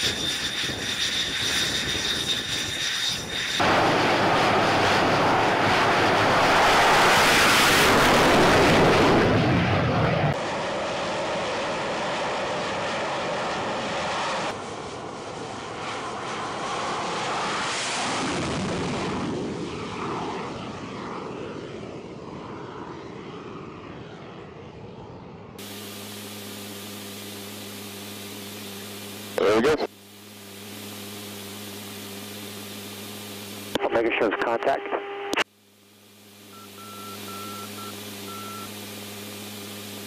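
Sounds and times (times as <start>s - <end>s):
jet engines at full power: 0.0s - 40.0s.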